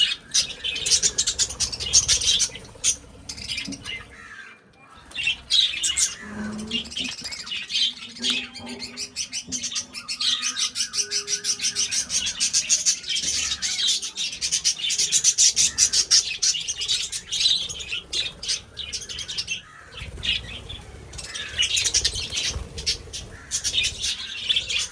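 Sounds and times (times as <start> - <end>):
budgerigars chattering and chirping: 0.0 - 24.9.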